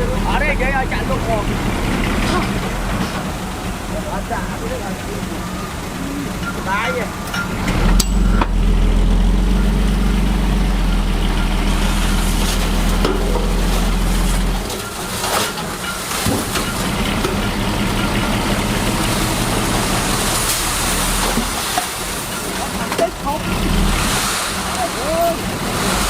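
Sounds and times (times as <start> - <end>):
diesel machinery engine rumble: 0.0 - 26.0.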